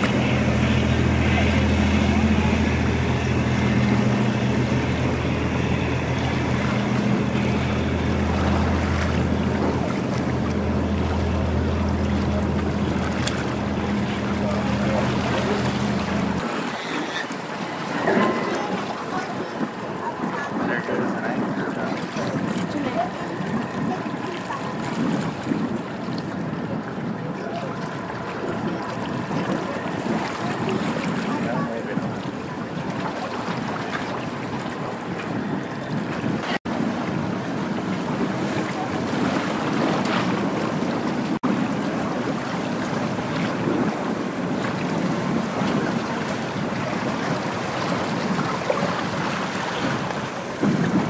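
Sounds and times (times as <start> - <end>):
boat engine drone: 0.0 - 51.0
bow wave rushing: 0.0 - 51.0
wind buffeting microphone: 0.0 - 51.0.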